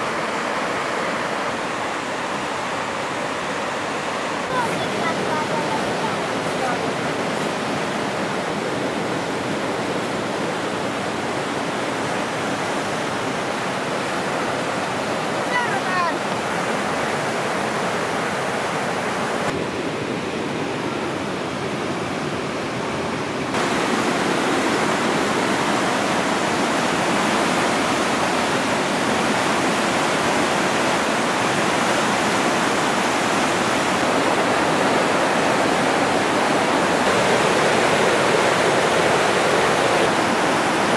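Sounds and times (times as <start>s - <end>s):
rapids rushing over rock: 0.0s - 19.6s, 23.5s - 40.9s.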